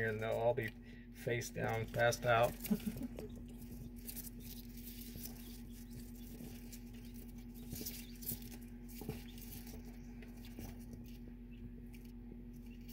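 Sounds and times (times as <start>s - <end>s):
chicks scratching on paper: 0.0s - 12.9s
steady low hum: 0.0s - 12.9s.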